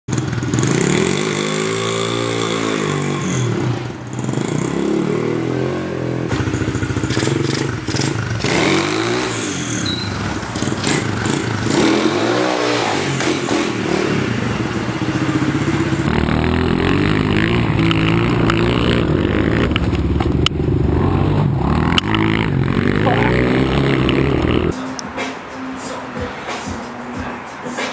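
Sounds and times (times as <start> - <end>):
dirt bike engine revving: 0.1 - 24.8.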